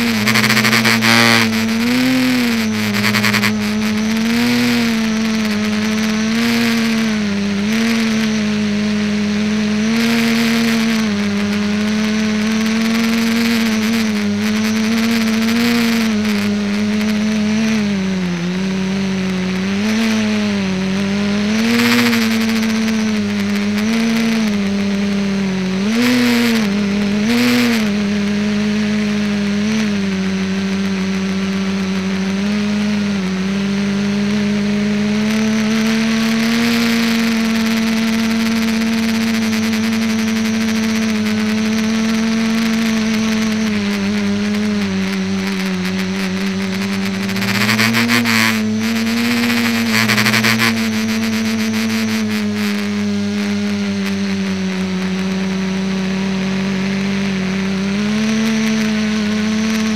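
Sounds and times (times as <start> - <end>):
model aircraft motors humming: 0.0 - 59.9.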